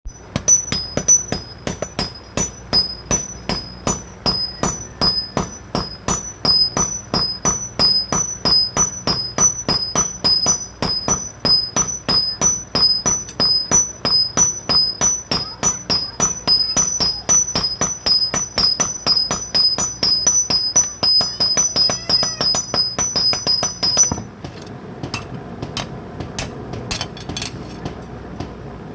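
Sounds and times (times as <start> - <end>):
hammers striking metal on anvil: 0.1 - 28.6.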